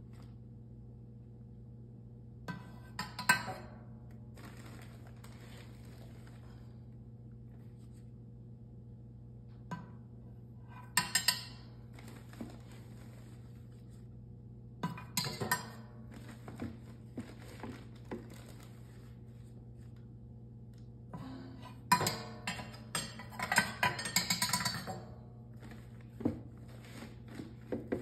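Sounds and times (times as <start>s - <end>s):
machine electrical hum: 0.0s - 28.0s.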